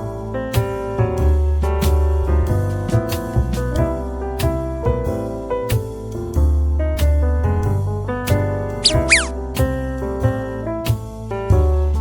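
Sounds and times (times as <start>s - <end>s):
piano background music with beat: 0.0s - 12.0s.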